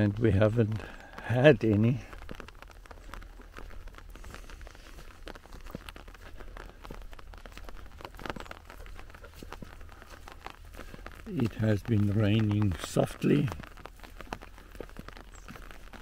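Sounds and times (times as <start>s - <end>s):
soft rain pattering: 0.0s - 16.0s
walking through wet grass: 0.0s - 16.0s.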